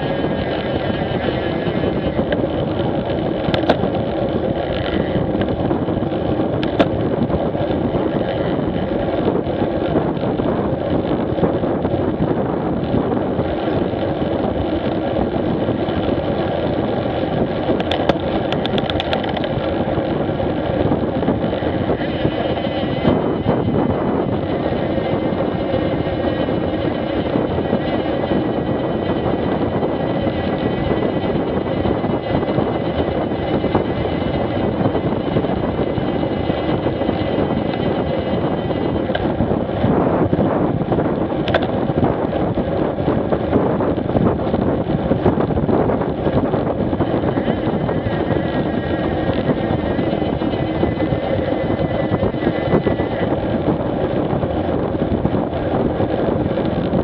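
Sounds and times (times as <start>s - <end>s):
motorcycle engine: 0.0s - 57.0s
wind noise: 0.0s - 57.0s.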